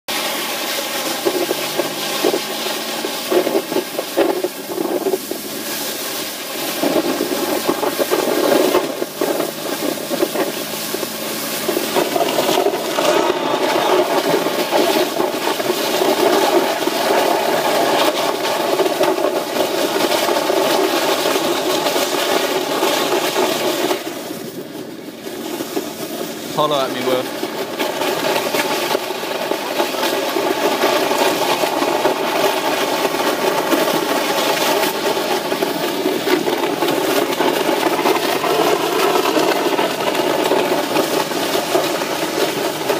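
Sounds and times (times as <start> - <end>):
car engine running low: 0.1 - 42.9
tyres rushing through slush: 0.1 - 42.9.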